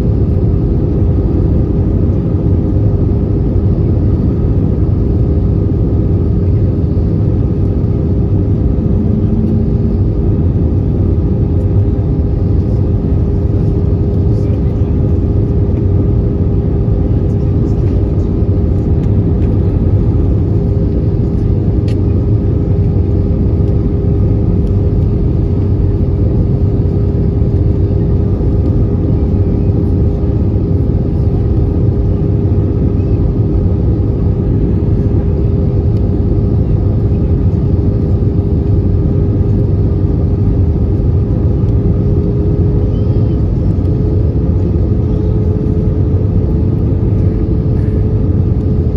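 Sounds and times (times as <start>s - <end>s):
constant cabin hum: 0.0s - 48.9s
jet engine drone in cabin: 0.0s - 48.9s.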